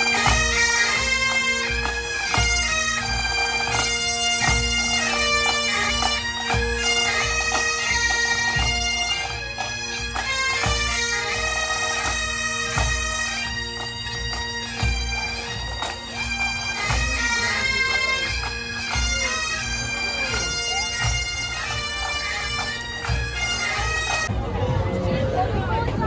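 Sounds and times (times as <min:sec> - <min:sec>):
bagpipe melody: 0:00.0 - 0:25.4
bagpipe drone: 0:00.0 - 0:26.0.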